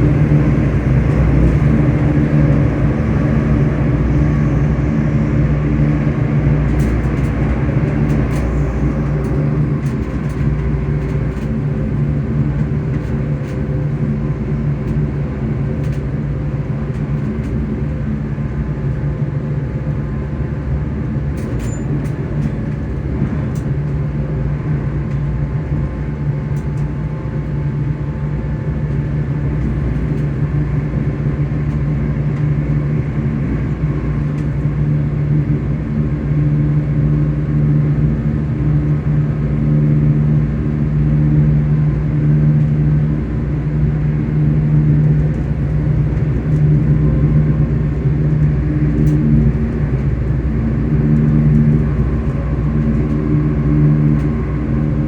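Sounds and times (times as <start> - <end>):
electric train motor hum: 0.0 - 21.3, 22.2 - 55.0
rail rumble: 0.0 - 55.0.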